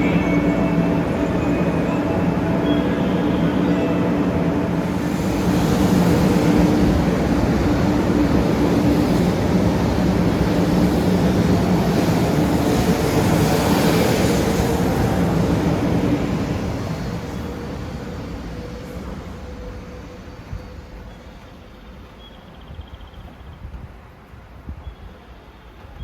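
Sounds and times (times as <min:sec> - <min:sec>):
rush of train wheels and air: 0:00.0 - 0:26.0.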